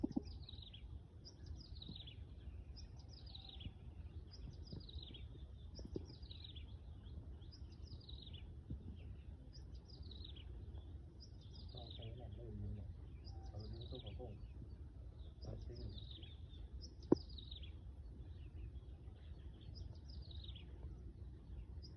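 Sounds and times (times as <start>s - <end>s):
songbird chirping: 0.0s - 21.9s
steady low rumble: 0.0s - 21.9s.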